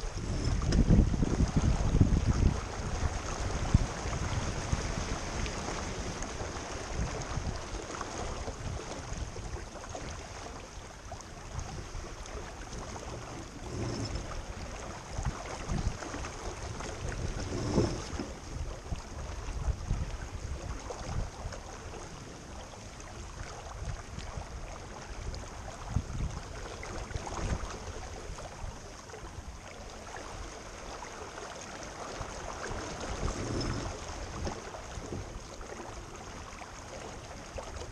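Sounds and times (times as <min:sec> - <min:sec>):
wind buffeting microphone: 0:00.0 - 0:10.5, 0:11.3 - 0:21.8, 0:23.3 - 0:29.6, 0:32.2 - 0:36.6
water noise from boat: 0:00.0 - 0:37.9.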